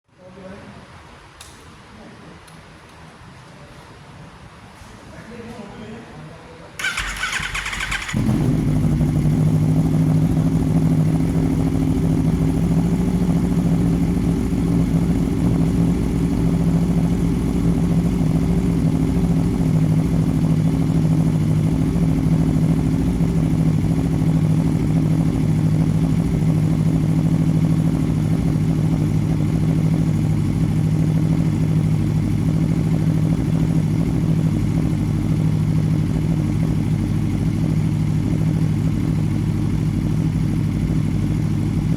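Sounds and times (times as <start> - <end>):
motorcycle engine idling: 6.8 - 41.9.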